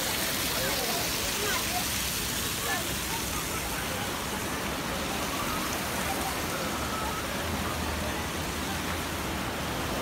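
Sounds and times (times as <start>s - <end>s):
water rushing over weir: 0.0s - 10.0s.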